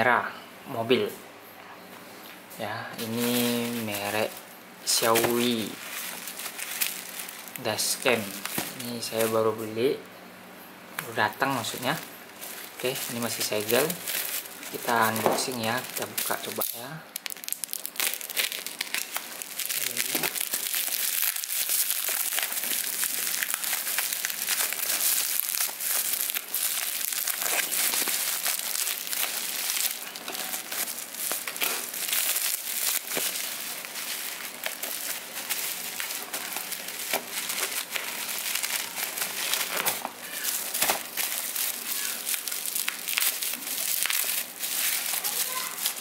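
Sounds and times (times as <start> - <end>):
bubble wrap crinkling: 3.0 - 9.8, 11.1 - 46.0.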